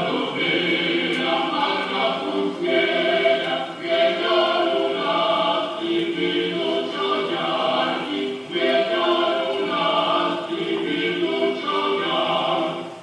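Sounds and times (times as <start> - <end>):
choir singing folk tune: 0.0 - 13.0.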